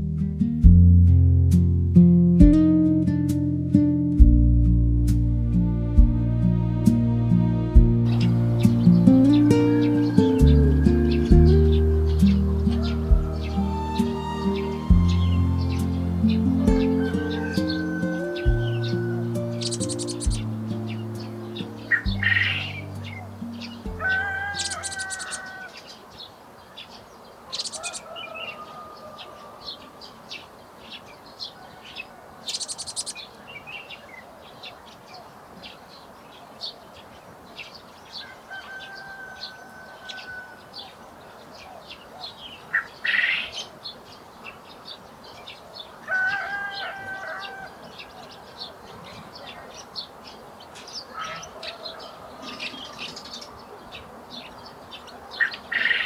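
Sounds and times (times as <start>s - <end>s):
songbirds chirping: 2.0s - 56.0s.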